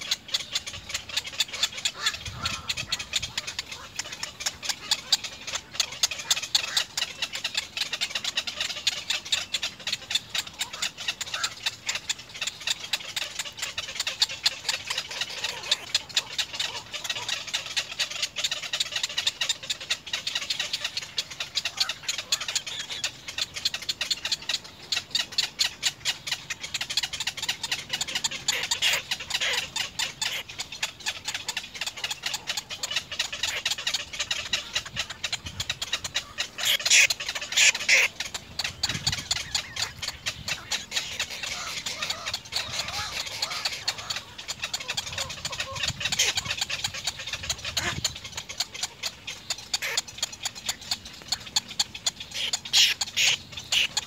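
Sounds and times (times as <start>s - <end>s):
nestlings rapid ticking chatter: 0.0s - 54.0s.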